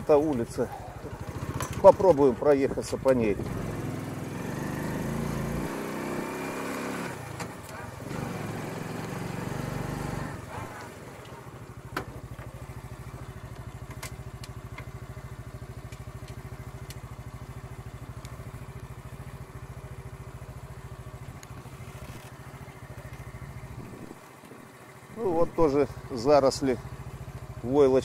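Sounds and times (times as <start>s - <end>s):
motorcycle engine idling: 0.0s - 5.7s, 10.4s - 28.0s.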